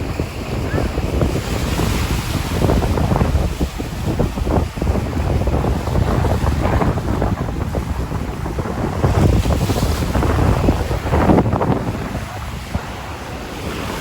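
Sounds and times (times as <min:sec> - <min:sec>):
waves washing on shore: 0:00.0 - 0:14.0
wind buffeting microphone: 0:00.0 - 0:14.0.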